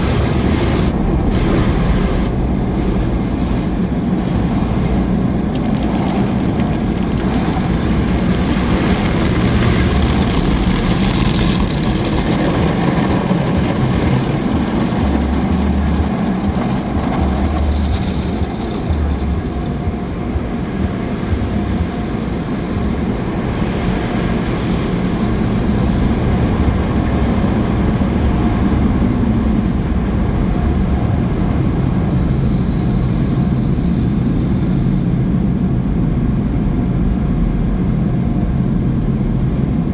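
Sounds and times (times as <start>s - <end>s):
car wash machinery rumble and hiss: 0.0s - 39.9s.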